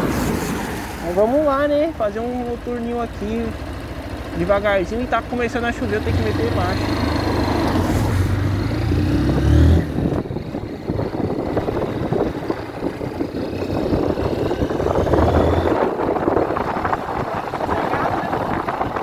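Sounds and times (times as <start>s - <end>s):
motorcycle engine revving: 2.1s - 19.0s.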